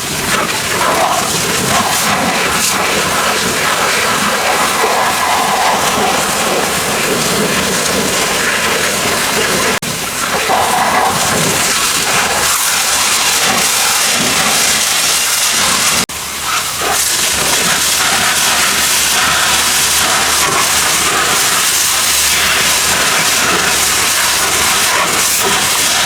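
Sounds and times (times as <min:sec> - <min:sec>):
pressure washer spraying: 0:00.0 - 0:26.0.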